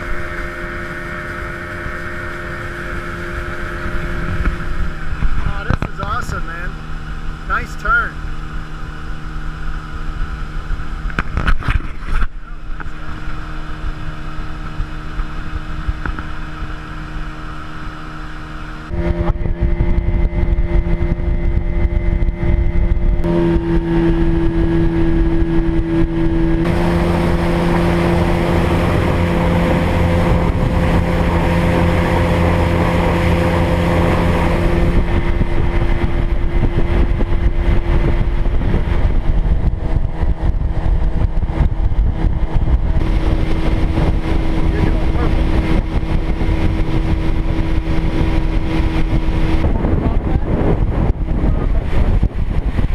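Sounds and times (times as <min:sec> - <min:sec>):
motorboat engine: 0:00.0 - 0:52.9
water rushing: 0:00.0 - 0:52.9
wind: 0:00.0 - 0:52.9.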